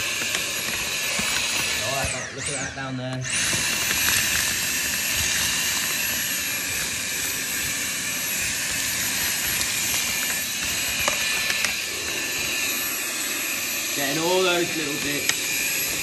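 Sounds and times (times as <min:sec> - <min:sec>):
vacuum cleaner hissing: 0:00.0 - 0:16.0.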